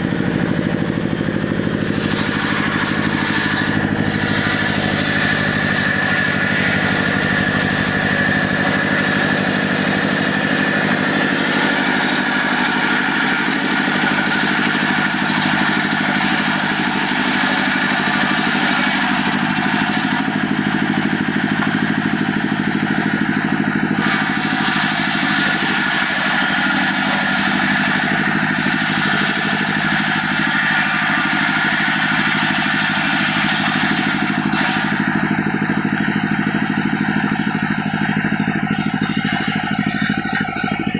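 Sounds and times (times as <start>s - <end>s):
engine-driven saw cutting timber: 0.0s - 40.9s.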